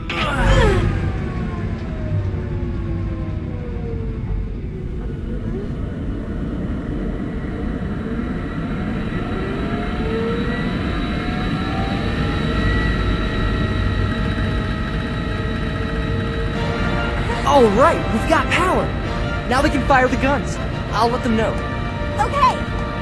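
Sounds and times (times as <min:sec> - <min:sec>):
turbine whines rising in pitch: 0:00.6 - 0:23.0.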